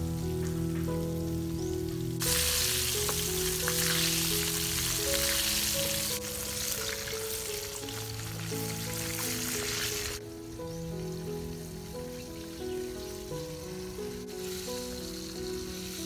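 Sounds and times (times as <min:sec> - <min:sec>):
hot oil sizzling: 0:00.0 - 0:16.0
slow melodic background music: 0:00.0 - 0:16.0.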